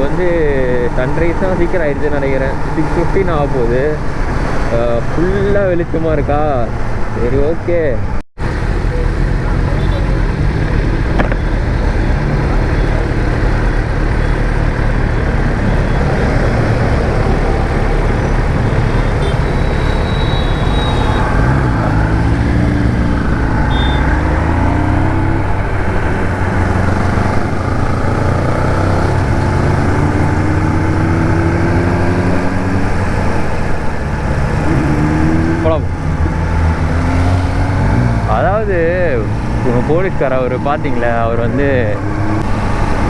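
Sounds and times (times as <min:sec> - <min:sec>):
road noise: 0:00.0 - 0:43.0
motorcycle engine revving: 0:08.4 - 0:43.0.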